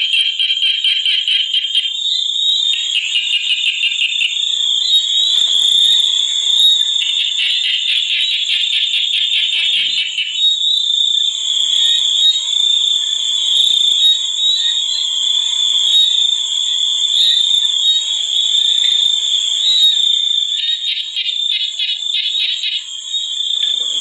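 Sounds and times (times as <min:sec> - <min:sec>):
high-pitched insect drone: 0:00.0 - 0:24.0
rapid pulsing frog calls: 0:00.0 - 0:24.0.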